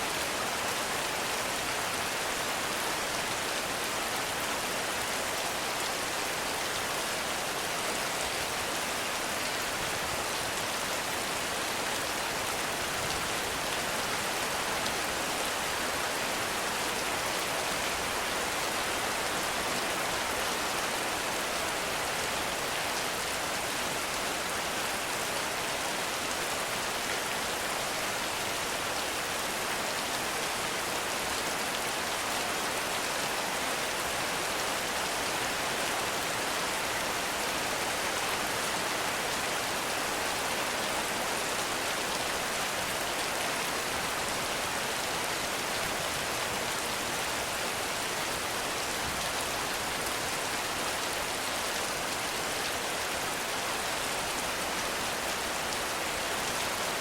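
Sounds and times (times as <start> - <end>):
heavy rain on forest: 0.0 - 57.0.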